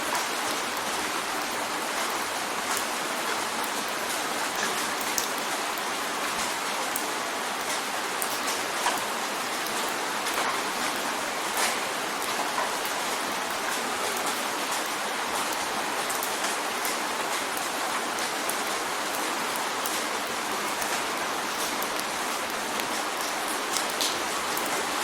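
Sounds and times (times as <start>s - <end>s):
rain hiss: 0.0s - 25.0s
raindrops ticking on glass: 1.4s - 25.0s.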